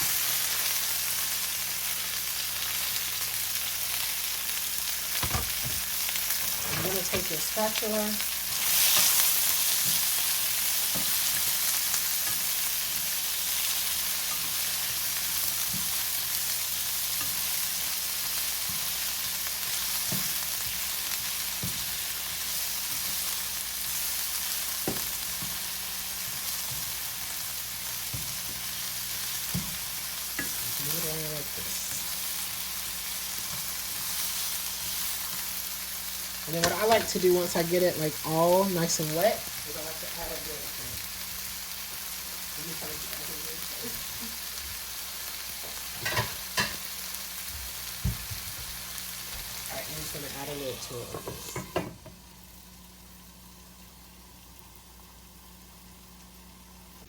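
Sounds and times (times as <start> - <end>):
onions sizzling in hot oil: 0.0 - 57.0.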